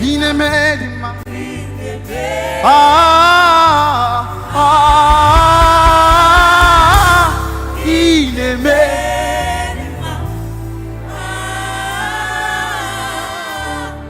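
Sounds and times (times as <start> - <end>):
keyboard and bass chords: 0.0 - 14.0
voices singing worship melody: 0.0 - 14.0.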